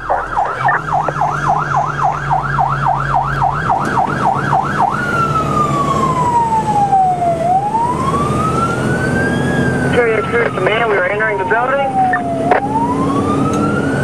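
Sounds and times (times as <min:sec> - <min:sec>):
fire truck siren: 0:00.0 - 0:14.0
truck engine running: 0:00.0 - 0:14.0.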